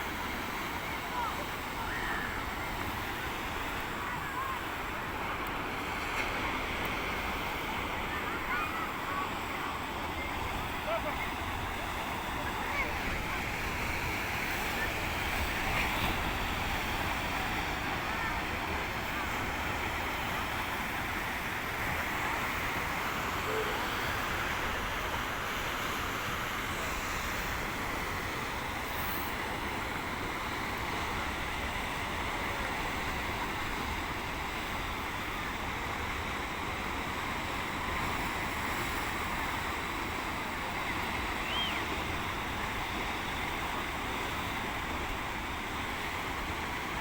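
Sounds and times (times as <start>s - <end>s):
sea surf washing onto beach: 0.0s - 47.0s.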